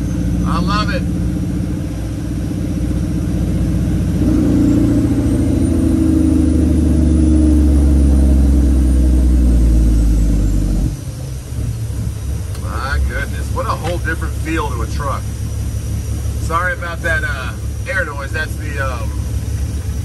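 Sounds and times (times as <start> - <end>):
truck diesel engine driving: 0.0 - 20.0.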